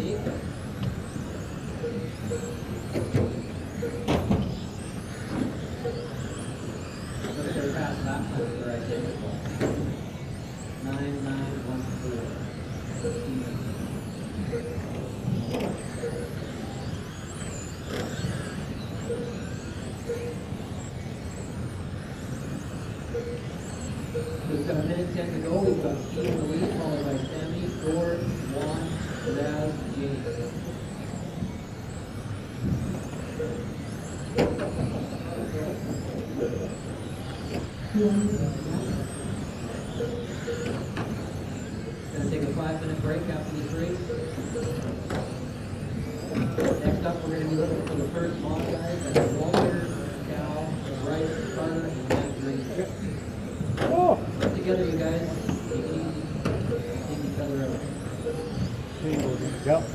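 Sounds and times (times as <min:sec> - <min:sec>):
short beeps: 0:00.0 - 0:09.8, 0:10.6 - 0:59.9
electric toy car motors whining: 0:00.0 - 0:59.9.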